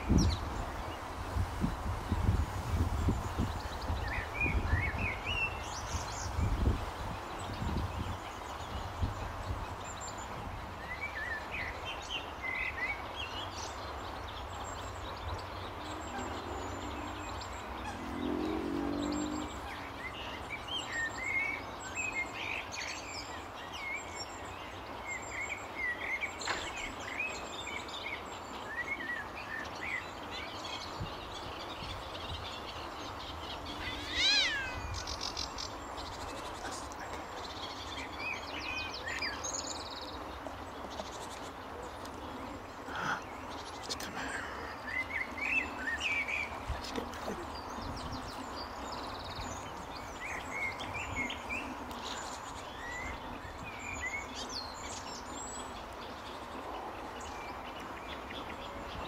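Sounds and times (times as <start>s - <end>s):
small birds singing and chirping: 0.0s - 59.0s
steady background hiss: 0.0s - 59.0s.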